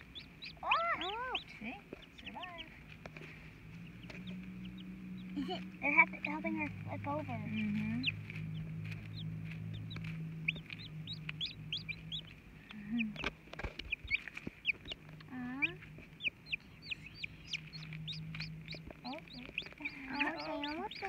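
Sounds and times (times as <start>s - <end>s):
chicks peeping: 0.0s - 21.0s
hen clucking: 0.0s - 21.0s.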